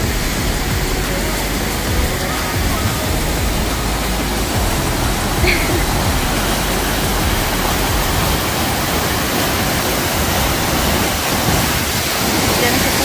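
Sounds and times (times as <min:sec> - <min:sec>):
waterfall pouring over rocks: 0:00.0 - 0:13.0.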